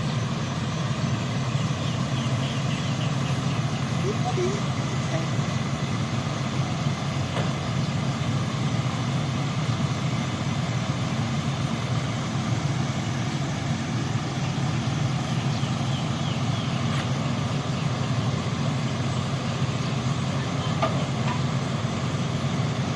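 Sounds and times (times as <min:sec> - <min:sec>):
truck engine running: 0:00.0 - 0:22.9.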